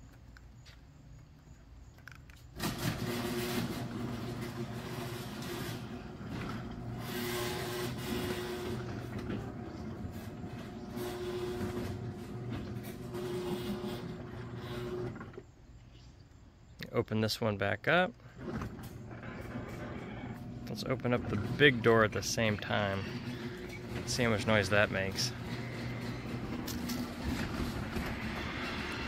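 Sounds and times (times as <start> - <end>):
garage door opener motor humming: 2.6 - 15.5, 18.4 - 29.0.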